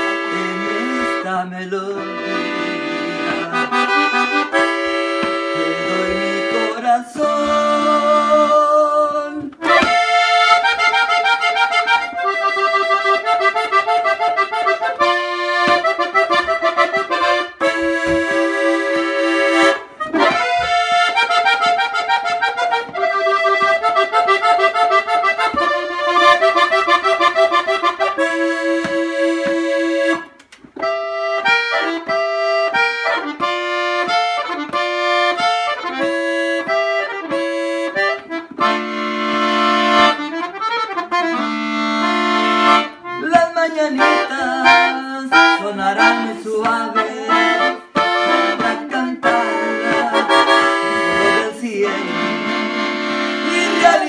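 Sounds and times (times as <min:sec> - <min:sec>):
solo accordion melody: 0:00.0 - 0:54.0.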